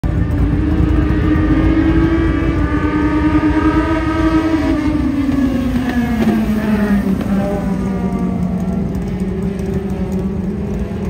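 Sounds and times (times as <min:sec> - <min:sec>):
race car engines running hard: 0:00.0 - 0:11.0.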